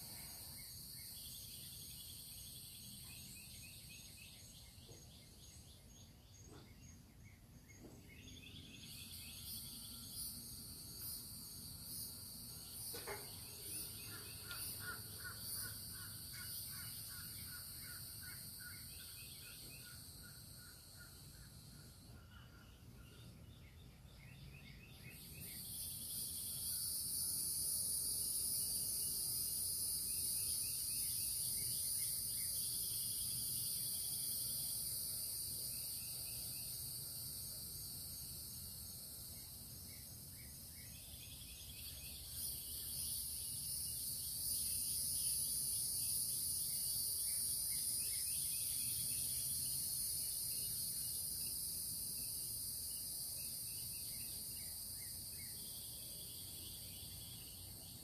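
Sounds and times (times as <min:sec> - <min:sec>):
faint chirps: 0:00.0 - 0:58.0
insects trilling: 0:00.0 - 0:58.0.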